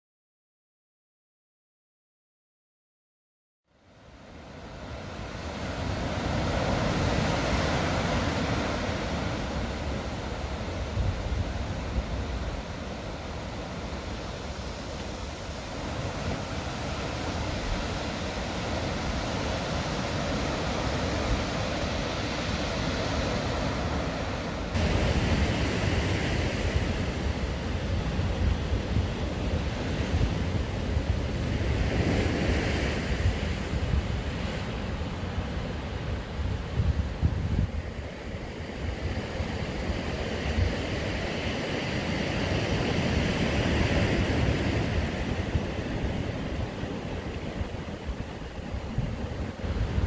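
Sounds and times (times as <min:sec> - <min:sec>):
wind rumbling on microphone: 0:04.2 - 0:50.0
surf washing over rocks: 0:04.3 - 0:50.0.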